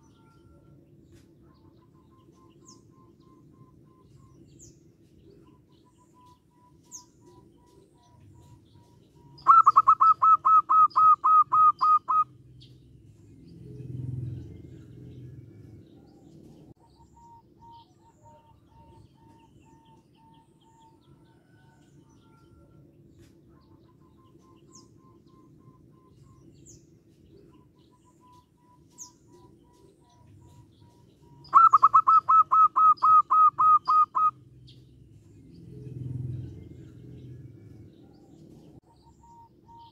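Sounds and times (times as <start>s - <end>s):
dove calling: 0.0s - 39.9s.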